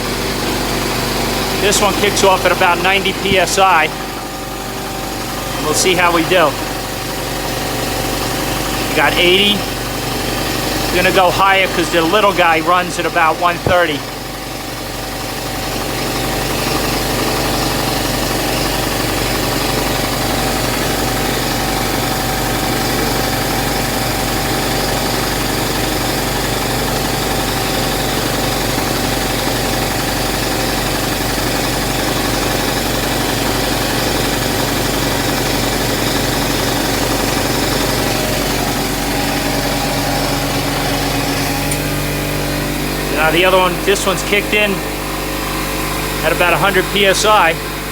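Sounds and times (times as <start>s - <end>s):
air compressors humming: 0.0s - 47.9s.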